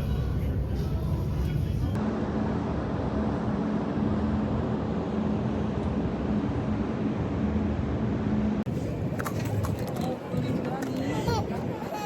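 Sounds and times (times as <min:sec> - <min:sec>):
low engine rumble with hum: 0:00.0 - 0:12.0.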